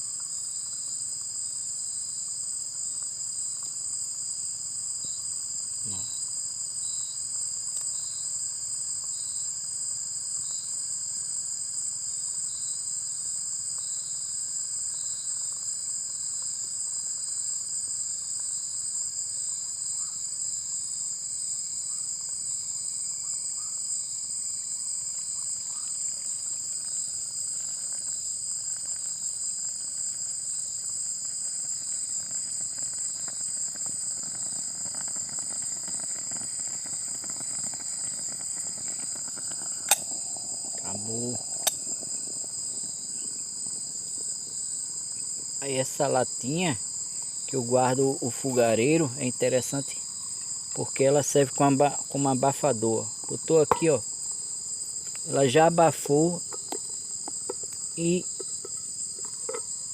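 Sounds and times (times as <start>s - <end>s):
insects shrilling: 0.0s - 59.9s.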